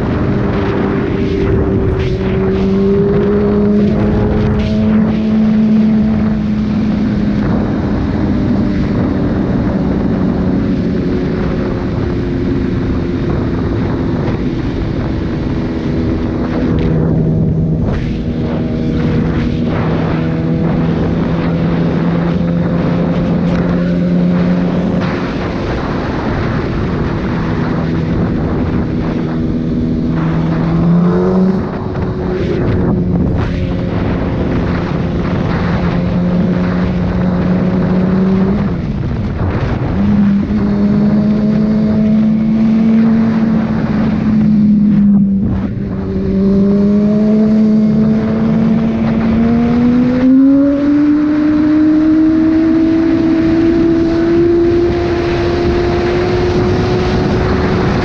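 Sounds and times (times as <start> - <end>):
motorcycle engine cruising: 0.0 - 58.0
wind rushing over microphone: 0.0 - 58.0.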